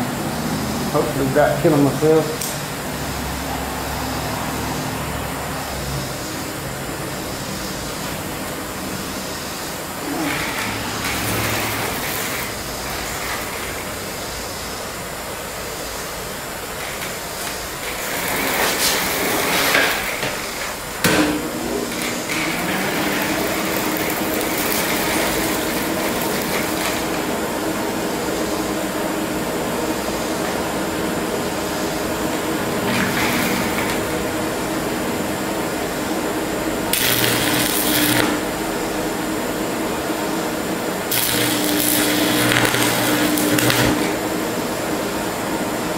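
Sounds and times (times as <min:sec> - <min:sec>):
propane torch hissing: 0:00.0 - 0:45.9.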